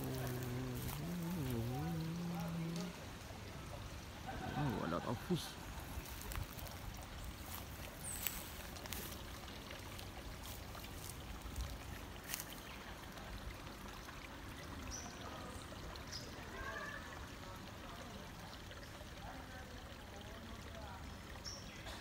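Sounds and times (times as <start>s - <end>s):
trickling water hiss: 0.0s - 22.0s.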